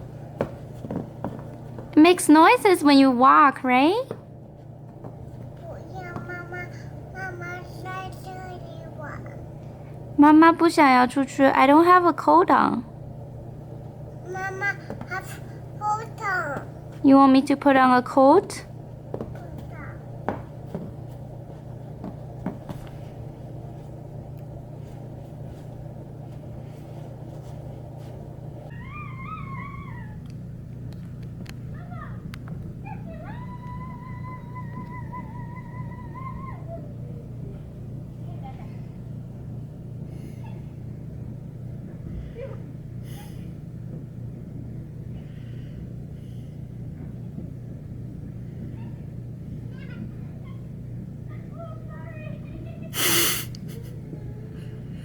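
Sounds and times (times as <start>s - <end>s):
low rumbling hum: 0.0s - 55.0s.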